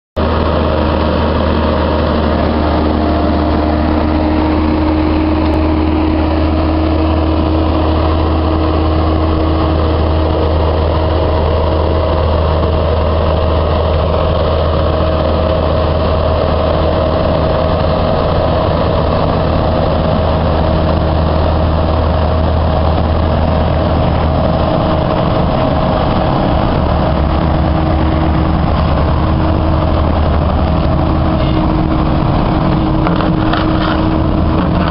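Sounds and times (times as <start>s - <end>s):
excavator diesel engine idling: 0.2s - 34.9s.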